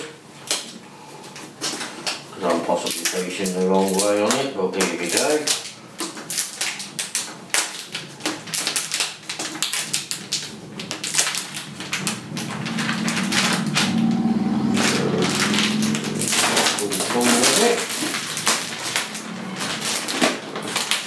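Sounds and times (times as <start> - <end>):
plastic film peeling off: 1.4 - 21.0.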